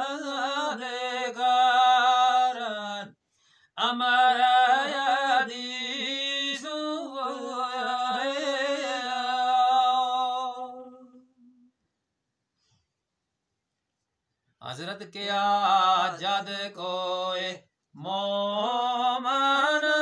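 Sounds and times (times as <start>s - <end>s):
man singing unaccompanied: 0.0s - 3.2s, 3.8s - 11.6s, 14.6s - 20.0s.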